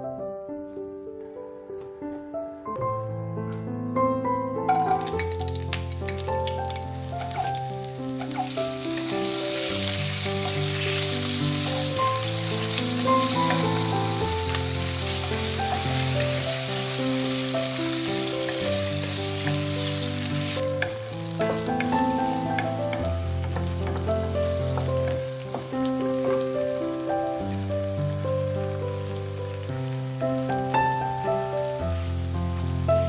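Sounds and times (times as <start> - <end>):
background music: 0.0 - 33.0
chicken and onion sizzling in oil: 4.7 - 33.0.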